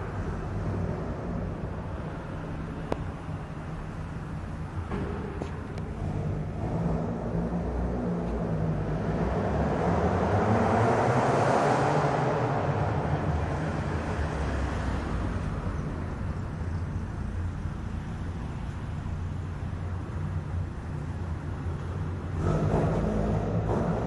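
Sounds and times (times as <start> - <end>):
car engine exhaust roar: 0.0 - 14.6, 17.5 - 24.0.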